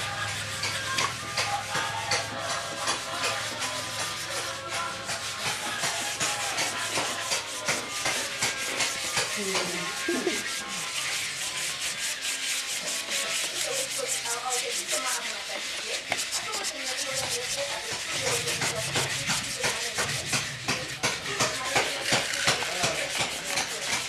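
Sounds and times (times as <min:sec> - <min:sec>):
sandpaper rubbing on stone: 0:00.0 - 0:24.0.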